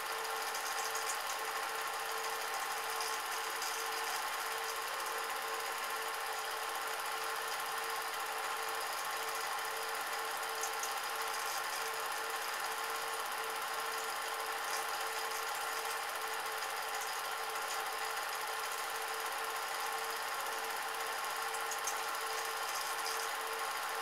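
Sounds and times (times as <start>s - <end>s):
film projector whirring: 0.0s - 24.0s.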